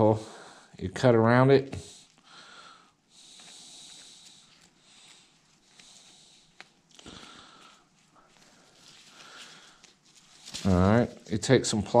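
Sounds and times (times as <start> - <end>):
faint breathing: 0.0 - 0.8, 1.7 - 10.7.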